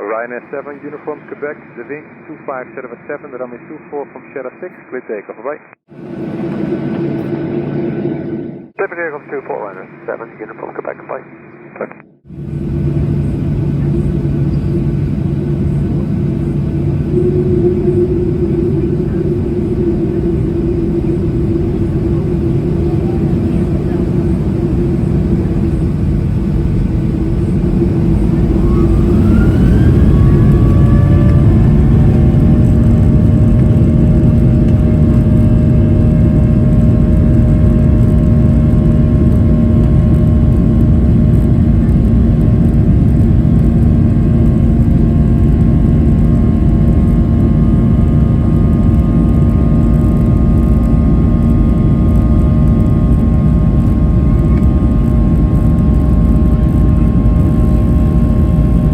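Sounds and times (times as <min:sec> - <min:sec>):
jet engine whine: 0:00.0 - 0:05.0, 0:05.8 - 0:58.9
low rumble of takeoff roll: 0:05.9 - 0:11.0, 0:12.0 - 0:58.9.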